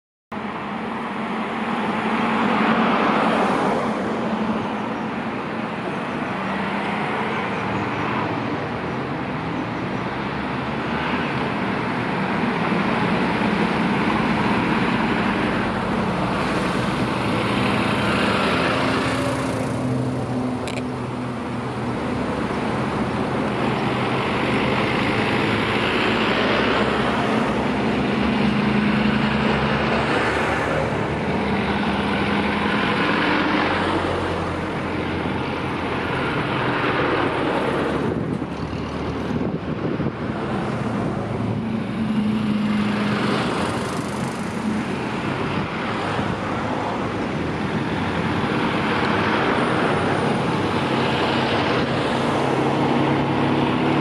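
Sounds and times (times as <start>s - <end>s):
fire engines driving past: 0.4s - 54.0s.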